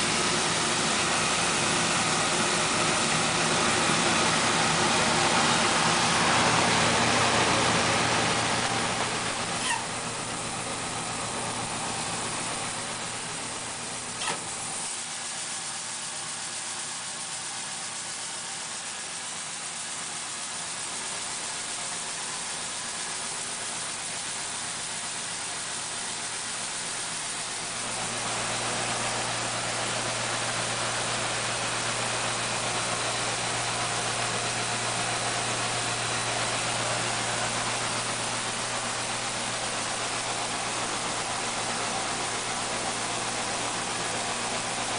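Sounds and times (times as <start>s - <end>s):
rice milling machine running: 0.0s - 44.9s.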